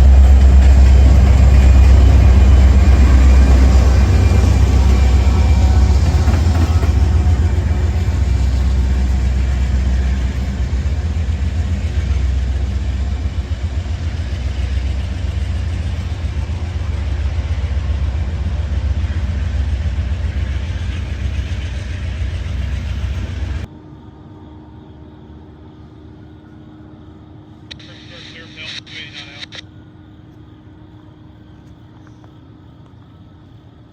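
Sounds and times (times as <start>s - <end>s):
diesel locomotive engine drone: 0.0s - 33.9s.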